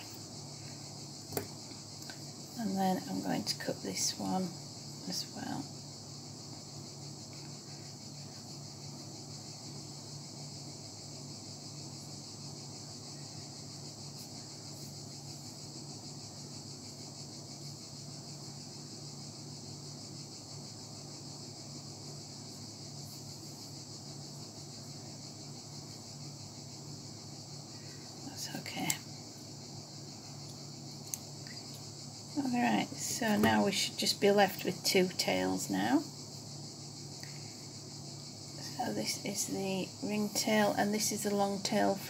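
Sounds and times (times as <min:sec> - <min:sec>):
high-pitched hiss: 0:00.0 - 0:42.0.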